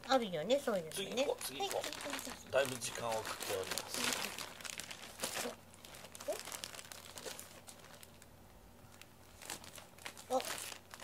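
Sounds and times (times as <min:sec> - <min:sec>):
plastic bags rustling: 0:00.9 - 0:11.0.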